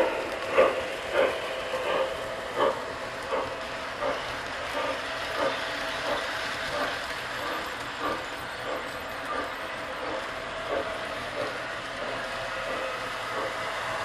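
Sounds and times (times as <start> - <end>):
model trains rolling on track: 0.0 - 14.0.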